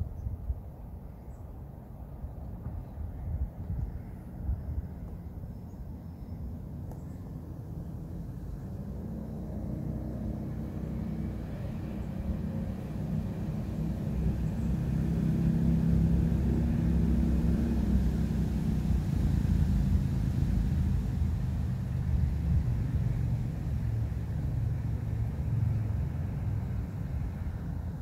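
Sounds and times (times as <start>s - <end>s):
low engine rumble: 0.0s - 28.0s
wind in trees: 0.0s - 28.0s.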